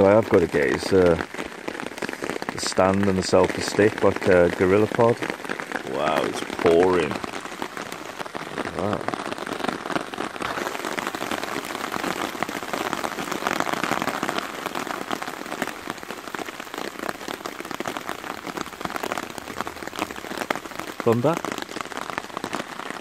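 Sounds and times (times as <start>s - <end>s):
heavy rain on a tarp: 0.0s - 23.0s.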